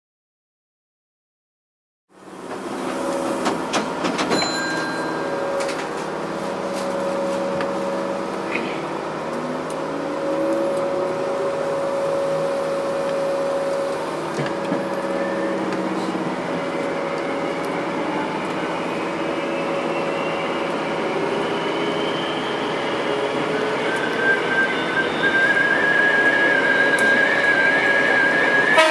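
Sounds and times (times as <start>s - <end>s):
train running hum and rolling noise: 2.1s - 28.9s.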